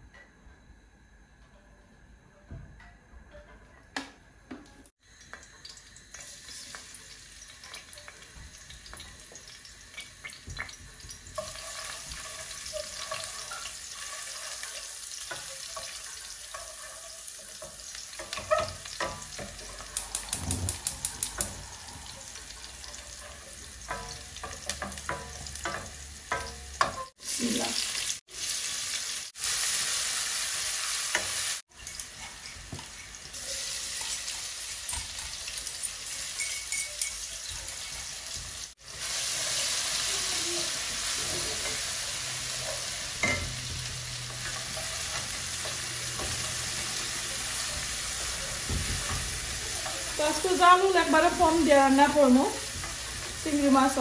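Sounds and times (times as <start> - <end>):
masala sizzling in a pot: 4.8 - 54.0.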